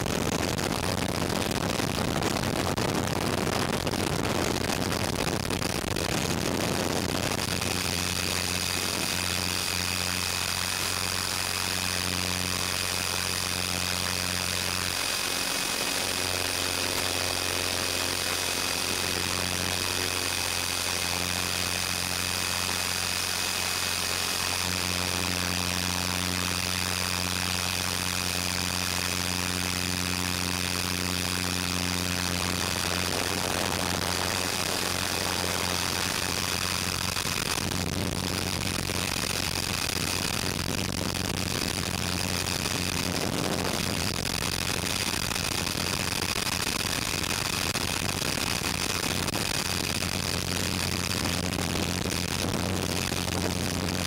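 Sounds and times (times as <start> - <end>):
high motor whine: 0.0 - 54.0
low rotor hum: 0.0 - 54.0.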